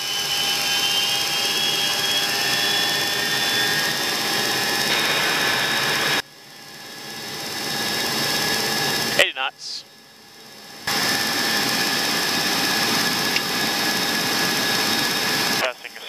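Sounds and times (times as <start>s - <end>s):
jet engines with high whine: 0.0s - 16.0s.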